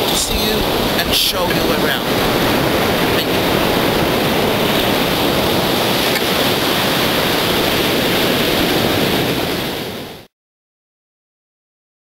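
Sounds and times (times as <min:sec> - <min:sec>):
waves washing onto beach: 0:00.0 - 0:10.3.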